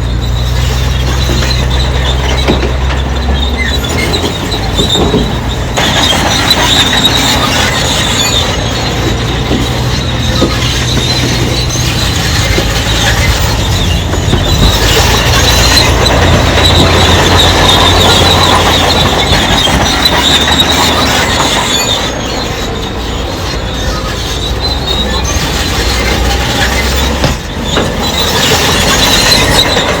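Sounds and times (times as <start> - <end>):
bulldozer diesel engine: 0.0 - 30.0
steel tracks squealing: 0.0 - 30.0
track clanks: 0.0 - 30.0.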